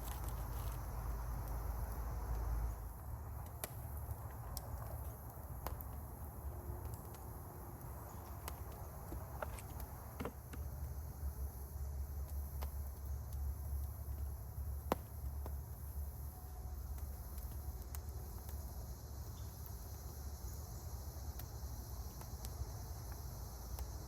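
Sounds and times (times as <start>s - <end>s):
low steady rumble: 0.0s - 23.8s.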